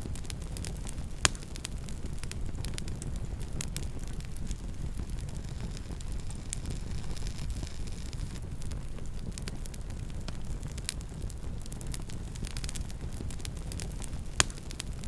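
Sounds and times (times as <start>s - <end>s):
burning wood popping: 0.0s - 15.0s
campfire crackling: 0.0s - 15.0s
low rumble: 0.0s - 15.0s.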